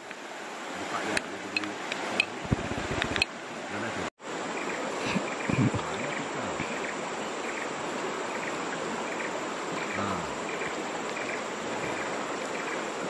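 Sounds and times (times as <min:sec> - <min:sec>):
river running over stones: 0:00.0 - 0:13.0.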